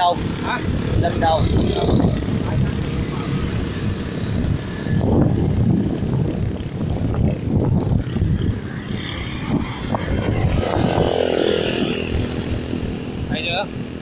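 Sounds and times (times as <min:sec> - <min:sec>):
motorbike and car engines: 0:00.0 - 0:14.0
wind on microphone: 0:00.0 - 0:14.0.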